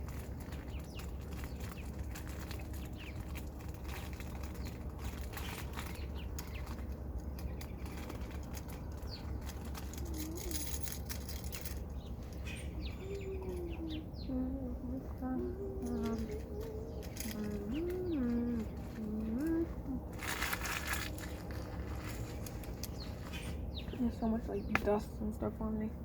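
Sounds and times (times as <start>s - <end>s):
rustling with clicks and crackles: 0.0s - 25.0s
steady low hum: 0.0s - 26.0s
wavering hum: 0.0s - 26.0s.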